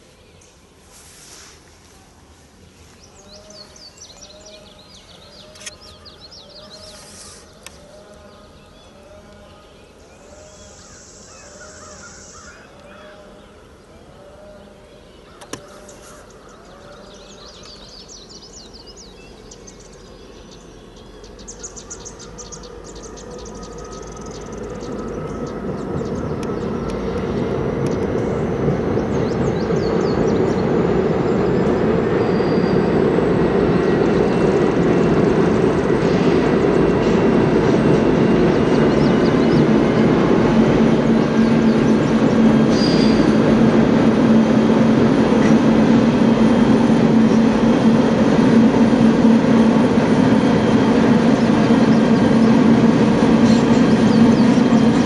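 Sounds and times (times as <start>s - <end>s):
train rumble: 0.0s - 12.0s, 12.6s - 55.0s
diesel locomotive engine: 0.0s - 55.0s.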